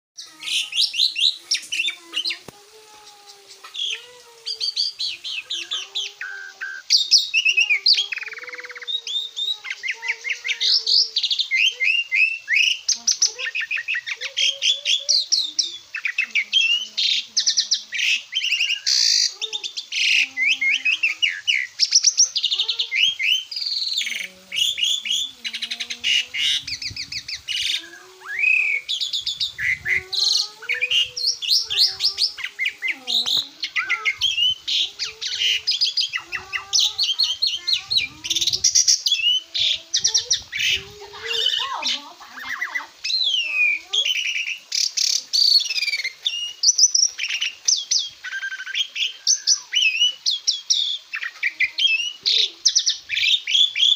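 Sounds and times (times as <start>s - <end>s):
starling singing: 0.2s - 53.9s.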